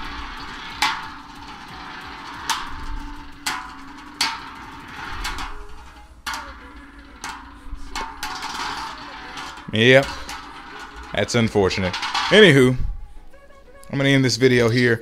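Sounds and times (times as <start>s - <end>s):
spinning tops clashing: 0.0s - 15.0s.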